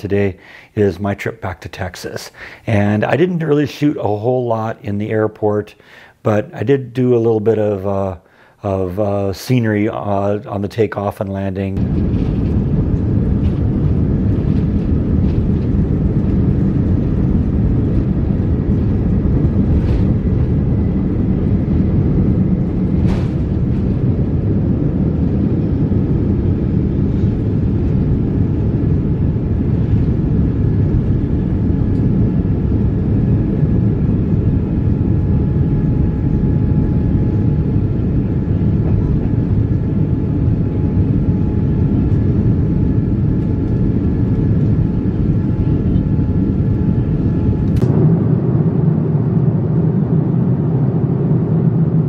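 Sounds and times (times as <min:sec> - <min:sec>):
jet engine and runway rumble: 0:00.0 - 0:04.2, 0:11.6 - 0:52.0
faint steady whine: 0:00.0 - 0:52.0.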